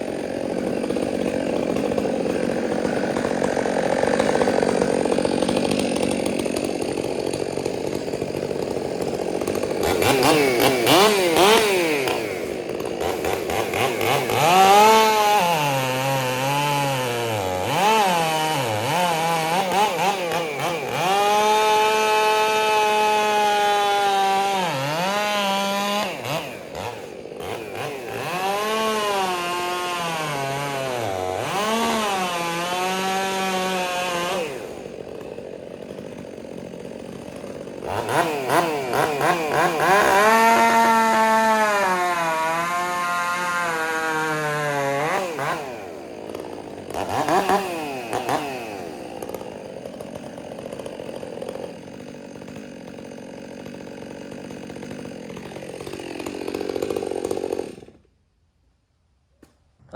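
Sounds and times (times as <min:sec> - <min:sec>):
chainsaw cutting wood: 0:00.0 - 0:58.3.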